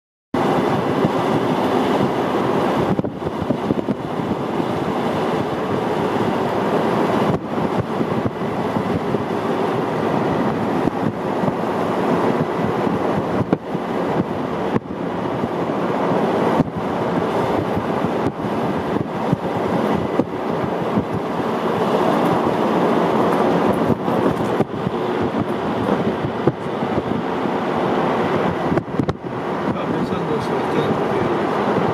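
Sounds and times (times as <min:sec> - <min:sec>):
tyre and wind noise: 0:00.4 - 0:31.9.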